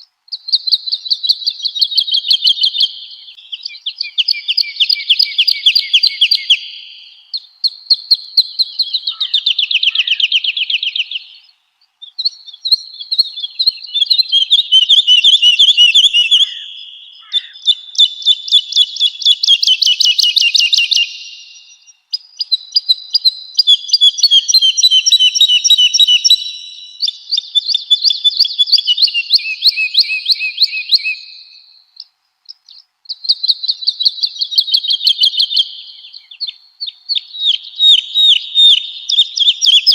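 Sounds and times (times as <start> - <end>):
woodlark singing trilled phrases: 0.0 - 39.9.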